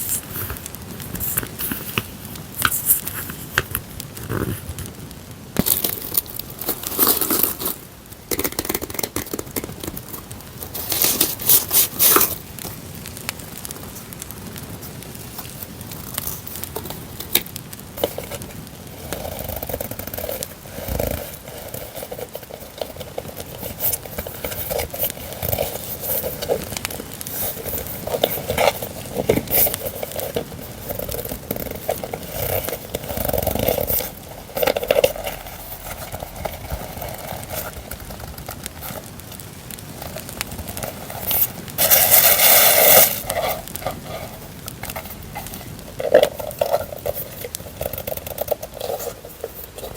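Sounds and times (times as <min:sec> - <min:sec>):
paper and packaging rustling: 0:00.0 - 0:05.0, 0:05.6 - 0:49.9
campfire crackling: 0:00.0 - 0:49.9.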